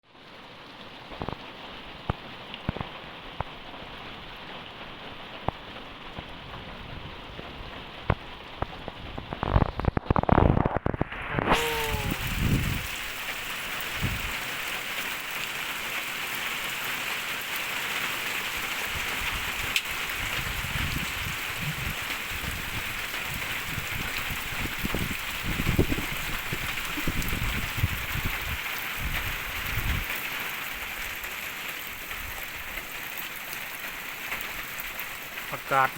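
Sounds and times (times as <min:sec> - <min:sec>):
rain falling: 0:00.1 - 0:35.9
raindrops striking close by: 0:00.1 - 0:35.9.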